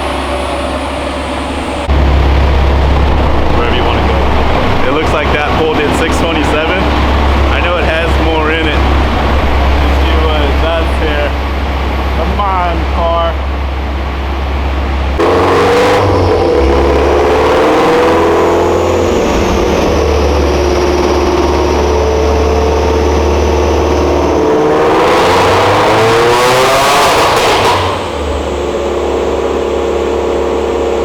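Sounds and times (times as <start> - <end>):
car engine revving under load: 0.0 - 31.0.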